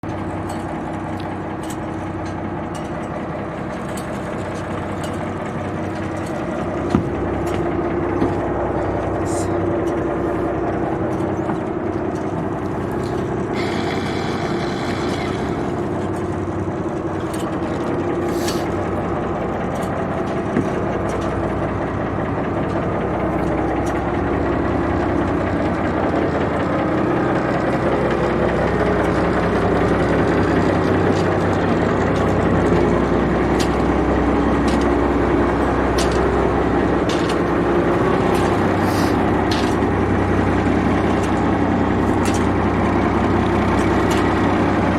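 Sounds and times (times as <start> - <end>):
boat engine humming: 0.0 - 44.9.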